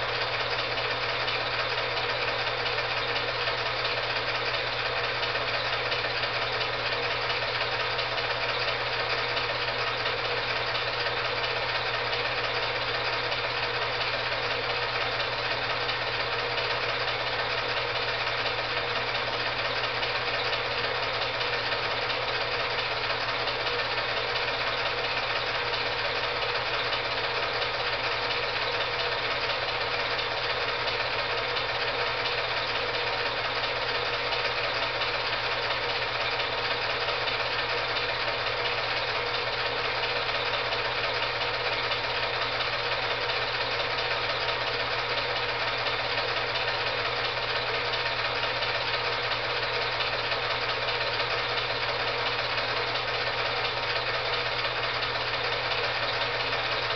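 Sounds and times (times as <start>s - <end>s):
film projector whirring: 0.0s - 56.9s.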